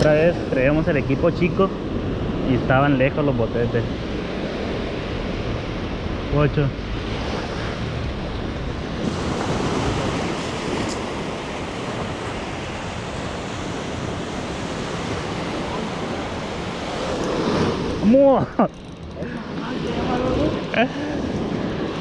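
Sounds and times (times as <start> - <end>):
ocean surf washing onto beach: 0.0 - 22.0
wind rumbling on microphone: 0.0 - 22.0.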